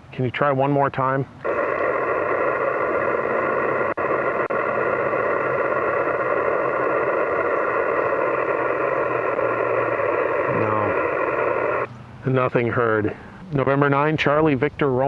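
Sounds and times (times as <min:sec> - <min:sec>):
radio band noise hiss: 0:00.4 - 0:15.0.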